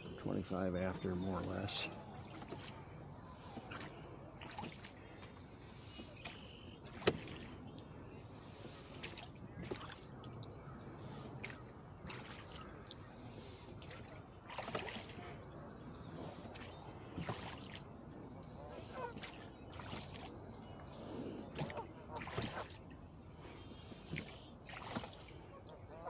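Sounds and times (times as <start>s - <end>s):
oars splashing in water: 0.0s - 26.0s.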